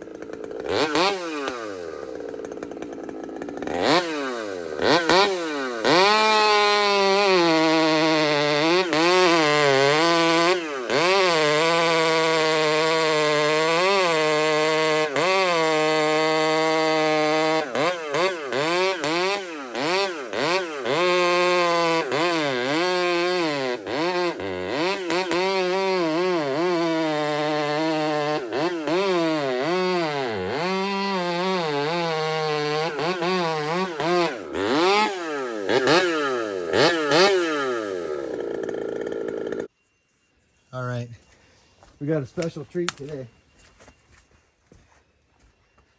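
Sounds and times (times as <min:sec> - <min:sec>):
chainsaw cutting log: 0:00.0 - 0:39.7.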